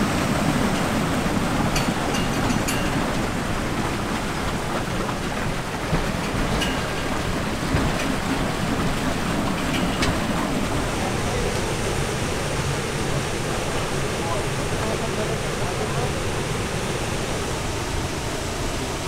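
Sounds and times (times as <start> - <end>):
water splashing and churning: 0.0 - 19.0.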